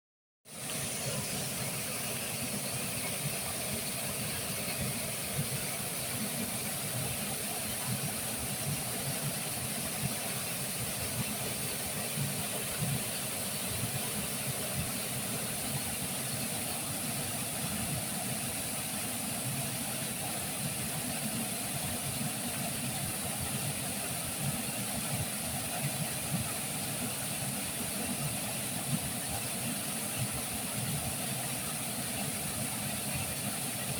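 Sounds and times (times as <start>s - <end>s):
river water flowing: 0.5s - 33.9s.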